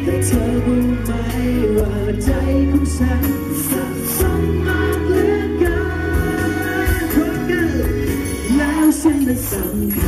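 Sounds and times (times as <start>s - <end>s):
loud backing music: 0.0s - 10.0s
man singing into a microphone: 0.0s - 10.0s.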